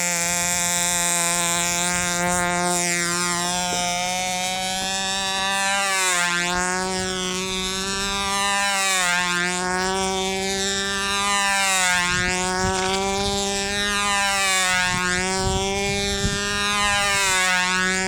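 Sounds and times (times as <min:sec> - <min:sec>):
model plane engine buzzing: 0:00.0 - 0:18.0.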